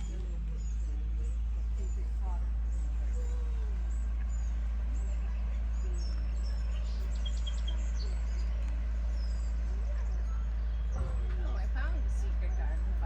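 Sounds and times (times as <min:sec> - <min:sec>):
songbirds chirping: 0:00.0 - 0:13.0
steady low rumble: 0:00.0 - 0:13.0.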